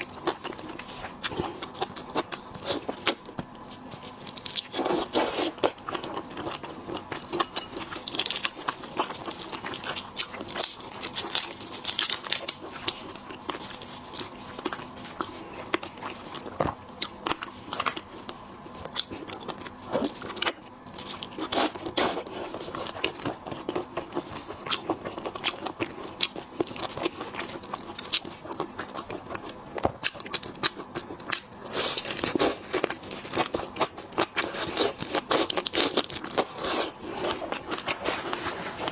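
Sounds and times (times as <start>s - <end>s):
biting and chewing: 0.0s - 38.9s.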